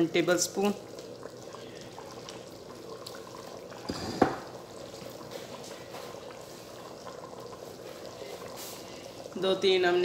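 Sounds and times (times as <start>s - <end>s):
curry bubbling in a pot: 0.0s - 10.0s.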